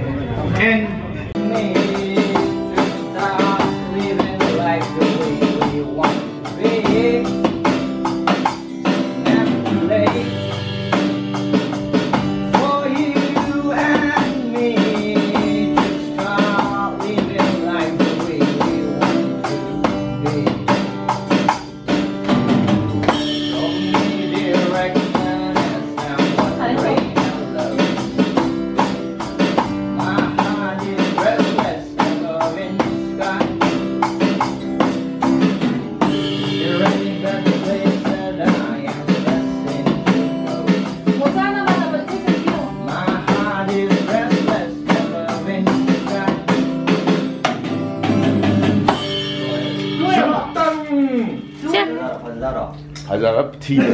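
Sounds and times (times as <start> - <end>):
man singing: 0.4 - 11.2, 12.0 - 21.5, 23.0 - 52.3, 53.6 - 53.9
acoustic guitar strumming chords: 0.5 - 53.9
electronic drum beat: 1.4 - 52.2.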